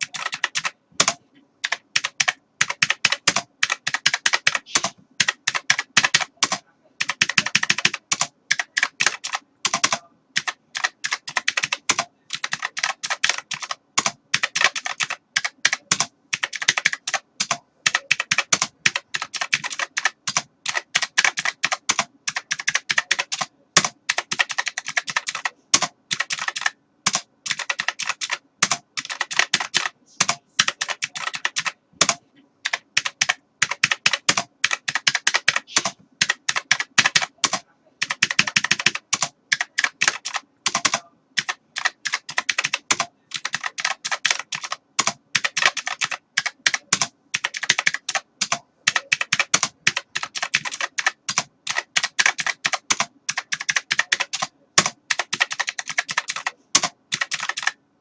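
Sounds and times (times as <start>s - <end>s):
keyboard typing clicks: 0.0s - 57.8s.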